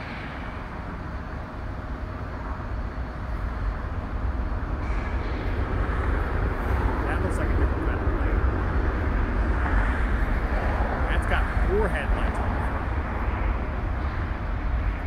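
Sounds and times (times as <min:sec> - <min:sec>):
jet airliner engine rumble: 0:00.0 - 0:15.0.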